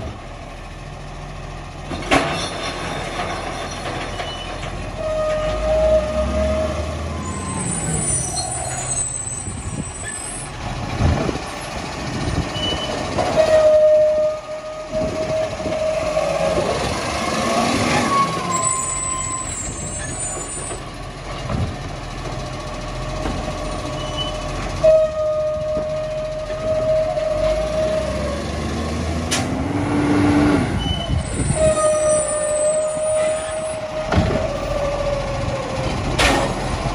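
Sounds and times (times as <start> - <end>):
recycling truck running: 0.0 - 36.9.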